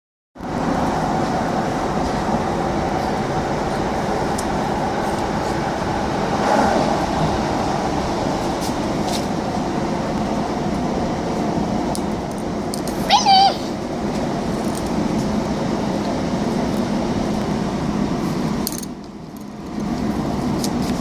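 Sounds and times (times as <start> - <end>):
train running rumble and hiss: 0.4 - 21.0.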